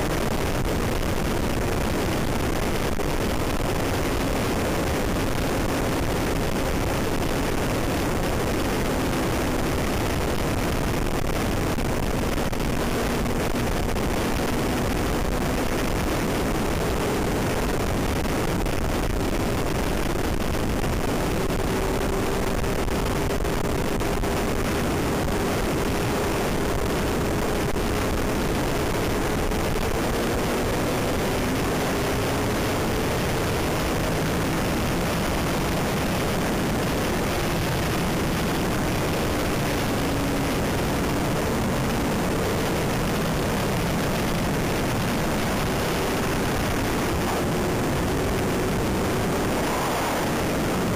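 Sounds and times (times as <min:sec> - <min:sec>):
motorcycle engine: 0:00.0 - 0:50.9
wind and road noise: 0:00.0 - 0:50.9.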